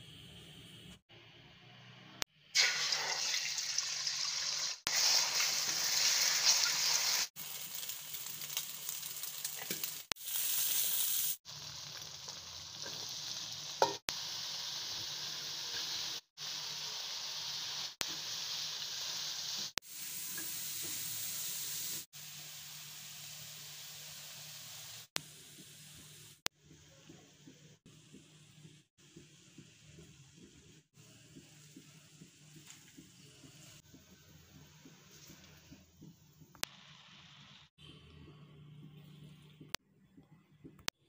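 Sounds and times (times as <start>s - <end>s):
food sizzling in a wok: 2.4s - 37.7s.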